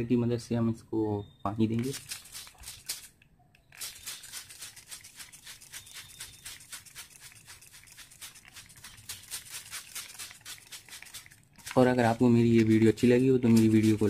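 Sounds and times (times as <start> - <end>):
spray bottle spritzing: 1.8 - 14.0.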